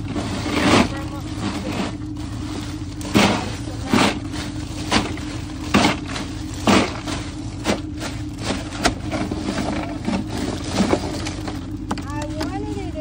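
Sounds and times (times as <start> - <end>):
ice crunching and sliding: 0.0 - 13.0
low motor hum: 0.0 - 13.0
plastic bag rustling: 0.0 - 13.0.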